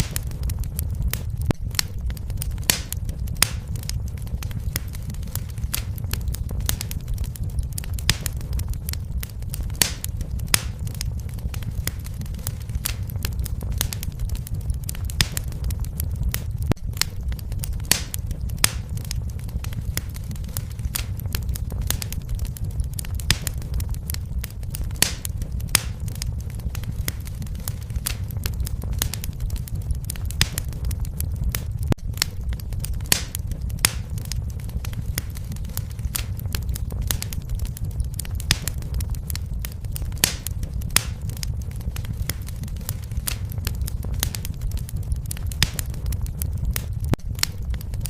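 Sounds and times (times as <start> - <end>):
fire crackling: 0.0 - 48.0
low rumble of fire: 0.0 - 48.0.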